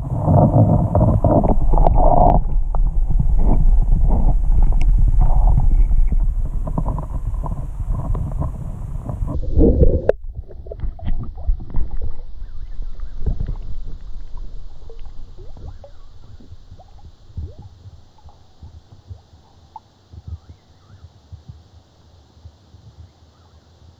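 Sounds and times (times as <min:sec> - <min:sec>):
muffled water gurgling: 0:00.0 - 0:23.2.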